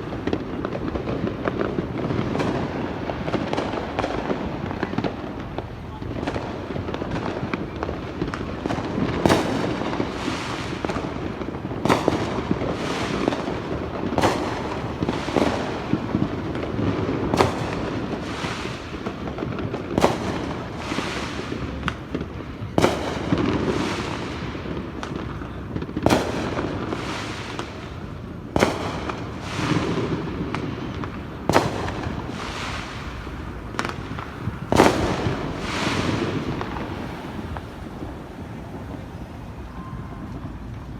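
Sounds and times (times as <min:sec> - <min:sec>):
crackle of small explosions: 0:00.0 - 0:39.4
firecracker sharp bangs: 0:00.0 - 0:40.9.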